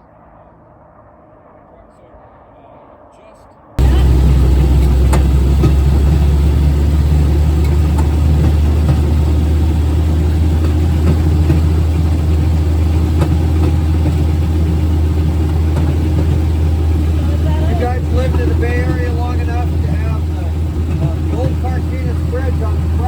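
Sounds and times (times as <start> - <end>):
rail vehicle engine running: 3.8 - 23.0.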